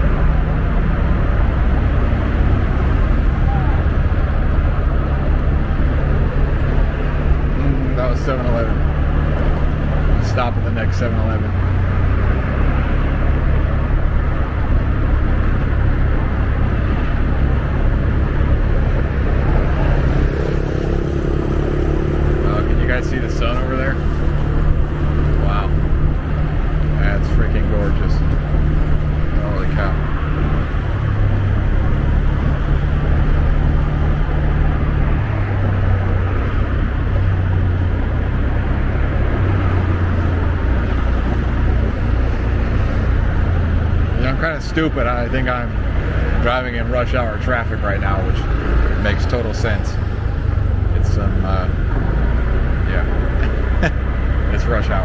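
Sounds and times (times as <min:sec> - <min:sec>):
wind rushing over microphone: 0:00.0 - 0:46.8
road noise: 0:00.0 - 0:55.0
scooter engine: 0:00.0 - 0:55.0.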